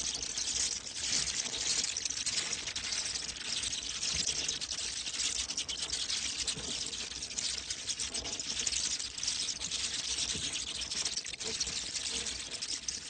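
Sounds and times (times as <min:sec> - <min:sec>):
bats clicking and squeaking: 0:00.0 - 0:13.0.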